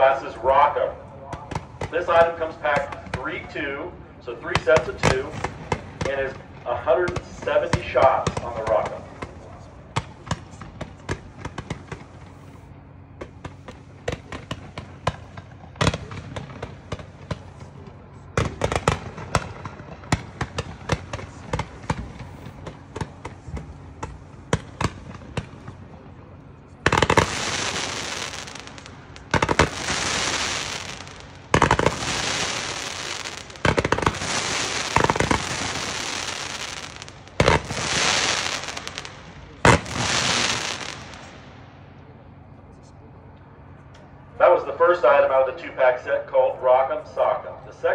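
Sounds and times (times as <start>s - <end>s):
fireworks popping and bursting: 1.4s - 3.6s, 4.5s - 26.0s, 26.7s - 41.6s.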